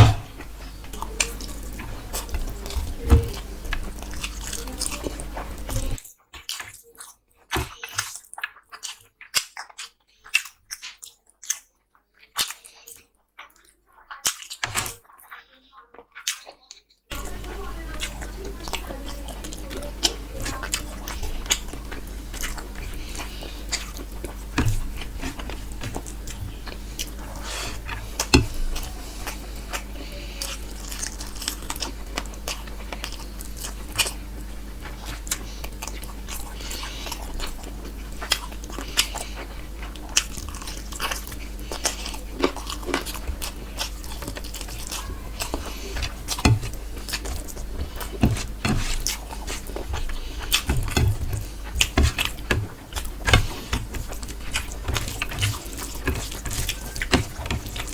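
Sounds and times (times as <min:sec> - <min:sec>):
faint low hum: 0:00.0 - 0:06.0, 0:17.1 - 0:57.9
chewing and mouth clicks: 0:00.0 - 0:57.9.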